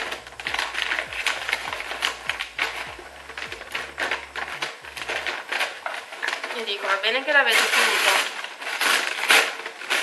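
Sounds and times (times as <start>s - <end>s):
plastic packaging clicks and crinkles: 0.0s - 10.0s.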